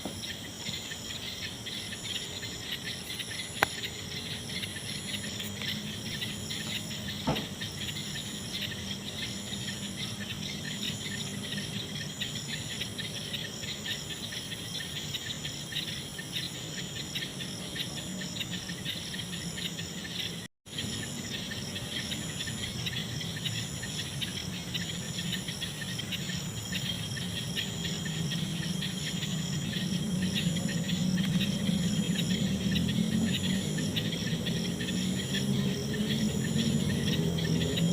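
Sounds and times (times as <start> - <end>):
crickets trilling: 0.0 - 37.9
high insect chirps: 0.0 - 37.9.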